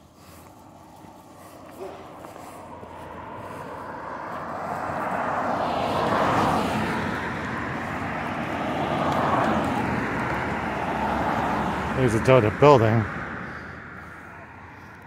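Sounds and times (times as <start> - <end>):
cars passing on road: 0.0 - 15.0.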